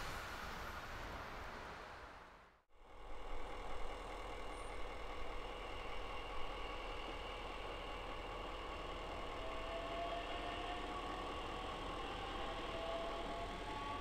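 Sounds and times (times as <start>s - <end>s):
engine idling: 2.8s - 14.0s.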